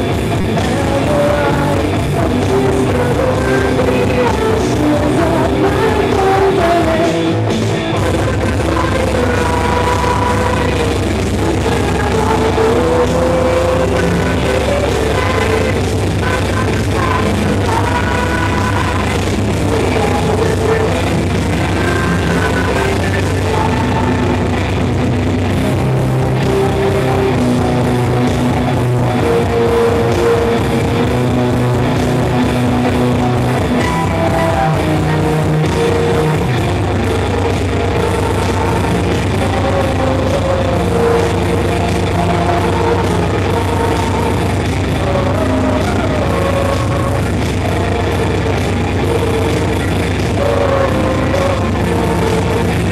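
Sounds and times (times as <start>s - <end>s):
metal band playing live: 0.0s - 52.9s.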